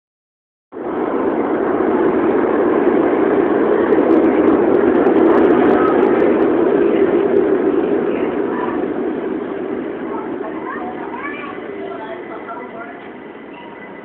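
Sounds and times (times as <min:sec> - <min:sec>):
train wheels rumbling on rails: 0:00.8 - 0:14.0.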